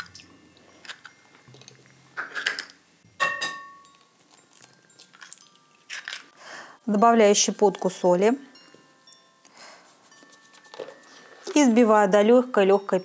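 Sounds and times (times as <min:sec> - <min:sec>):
bowl ringing: 0:00.0 - 0:02.2, 0:03.0 - 0:13.0.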